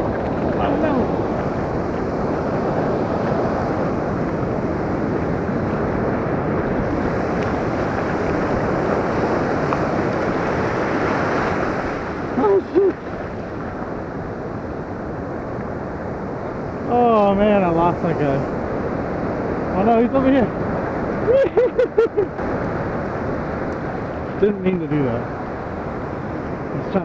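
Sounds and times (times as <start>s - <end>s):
surf washing over sand: 0.0s - 27.0s
wind buffeting microphone: 0.0s - 27.0s.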